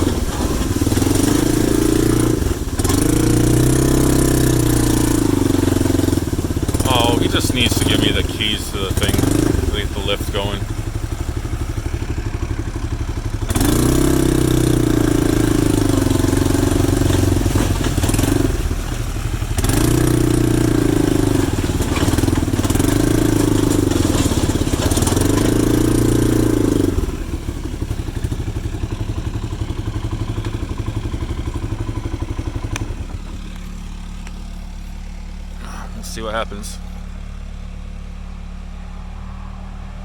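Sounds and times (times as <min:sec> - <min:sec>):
backhoe engine revving and idling: 0:00.0 - 0:40.0.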